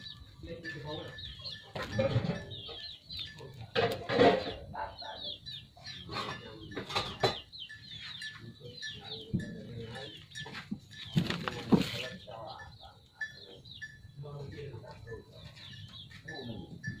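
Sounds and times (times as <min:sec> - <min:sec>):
chicken clucking: 0:00.0 - 0:17.0
chicks peeping: 0:00.0 - 0:17.0.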